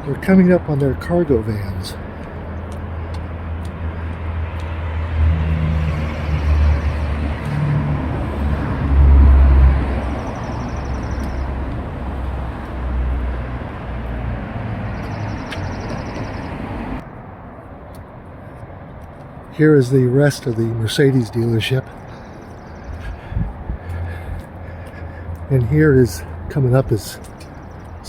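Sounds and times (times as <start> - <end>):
car road noise: 0.0 - 28.0.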